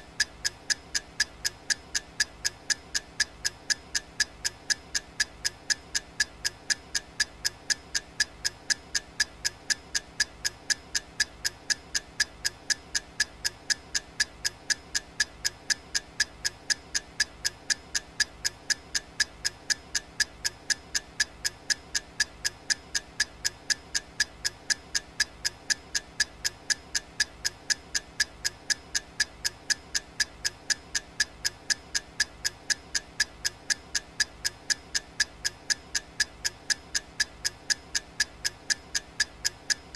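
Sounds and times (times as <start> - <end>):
clock ticking: 0.1 - 39.9.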